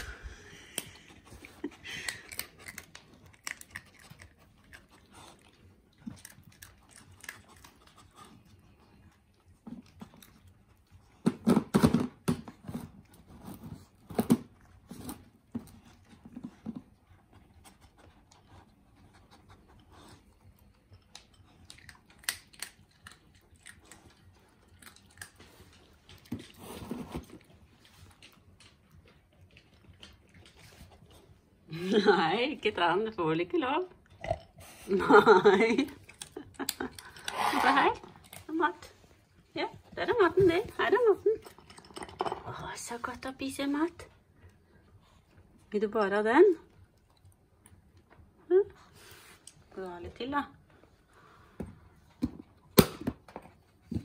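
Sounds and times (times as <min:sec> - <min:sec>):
dogs crunching dry kibble: 0:00.0 - 0:33.2, 0:34.0 - 0:45.2.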